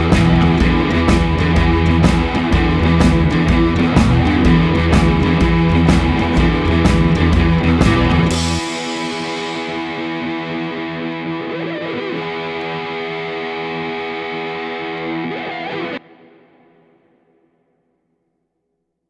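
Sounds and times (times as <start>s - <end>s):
distorted electric guitar chord: 0.0s - 17.2s.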